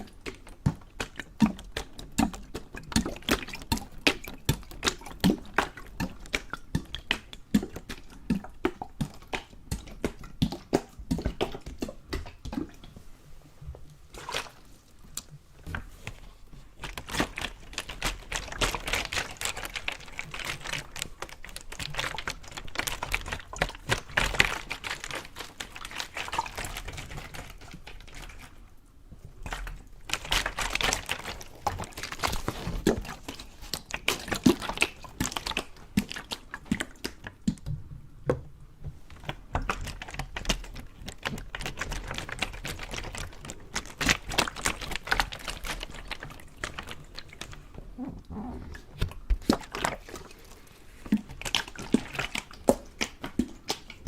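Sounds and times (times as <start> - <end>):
liquid clicks and splashes: 0.0 - 13.1, 13.7 - 54.0.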